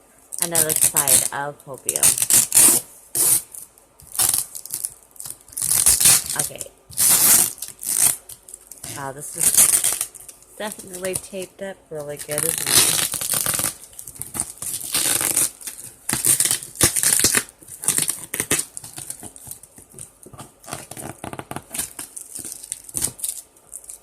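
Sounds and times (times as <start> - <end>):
packing tape ripping off cardboard: 0.4 - 11.4, 12.1 - 24.0.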